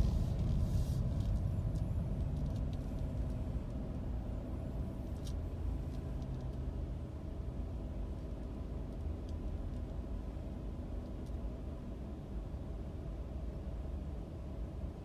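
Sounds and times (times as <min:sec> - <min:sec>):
car engine rumble from inside: 0:00.0 - 0:15.0.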